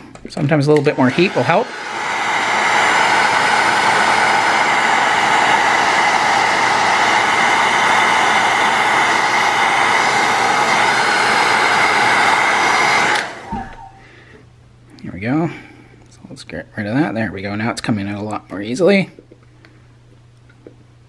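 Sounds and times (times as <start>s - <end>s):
heat gun fan running: 0.0s - 20.2s.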